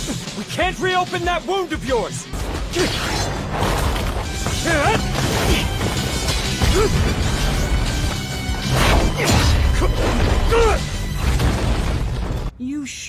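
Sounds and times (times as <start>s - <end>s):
dramatic music: 0.0s - 12.5s.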